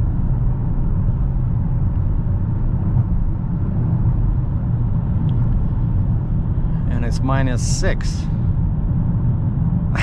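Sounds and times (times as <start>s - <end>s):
car engine drone: 0.0s - 10.0s
road and tyre noise: 0.0s - 10.0s.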